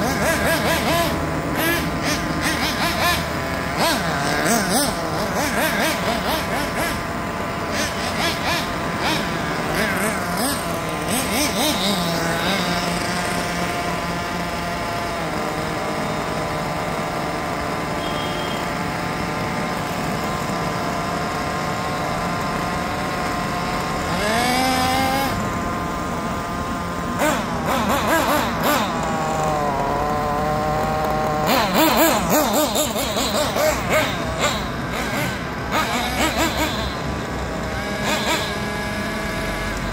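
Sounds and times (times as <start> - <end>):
small model engine buzzing and revving: 0.0 - 39.9.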